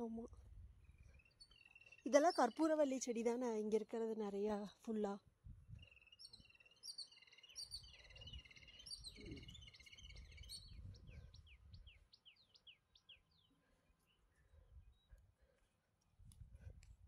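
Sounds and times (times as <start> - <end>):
faint birdsong: 0.0 - 3.8, 5.7 - 16.0.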